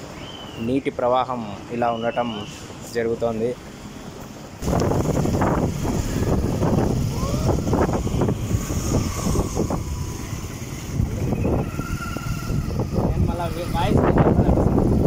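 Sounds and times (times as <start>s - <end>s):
vehicles rumbling over bridge: 0.0s - 15.0s.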